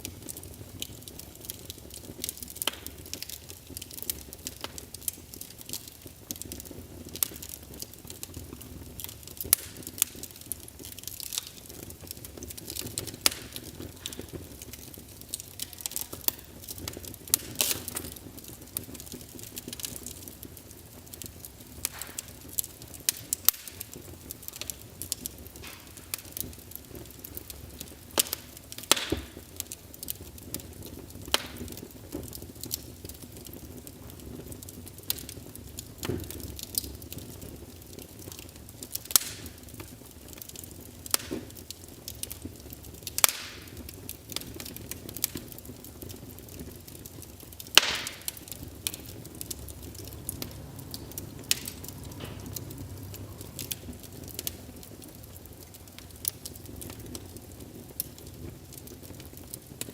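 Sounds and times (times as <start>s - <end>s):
low steady hiss: 0.0s - 59.9s
wood fire crackling and popping: 0.0s - 59.9s.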